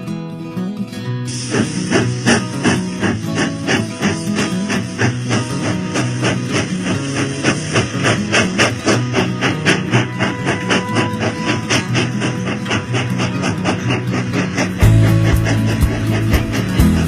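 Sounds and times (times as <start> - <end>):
fast beat music with bass: 1.4 - 17.0.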